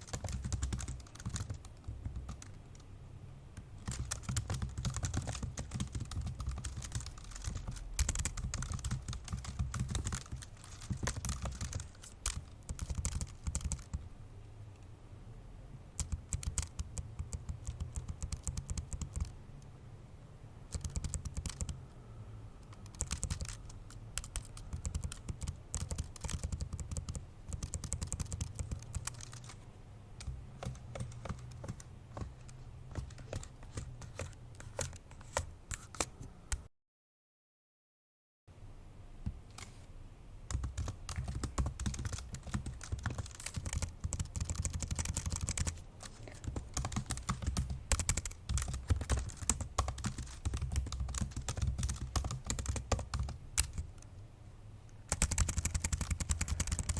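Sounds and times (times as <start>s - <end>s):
fast typing on laptop keyboard: 0.0s - 2.9s, 3.6s - 14.0s, 16.0s - 19.4s, 20.7s - 21.9s, 22.6s - 29.6s, 30.2s - 36.1s, 40.5s - 54.1s, 55.1s - 56.9s.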